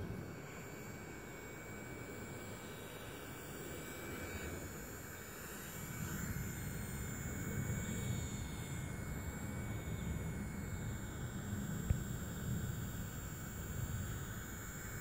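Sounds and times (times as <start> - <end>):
model helicopter motor and rotors whining: 0.0 - 15.0.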